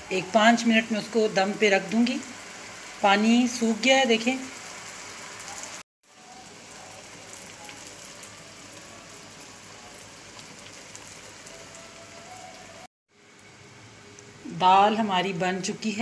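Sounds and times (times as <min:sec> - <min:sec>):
lentils sizzling in oil: 0:00.0 - 0:16.0.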